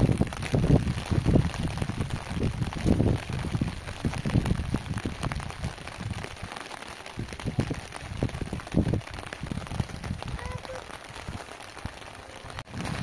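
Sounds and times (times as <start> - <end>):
rain falling: 0.0 - 13.0
wind noise on microphone: 0.0 - 13.0.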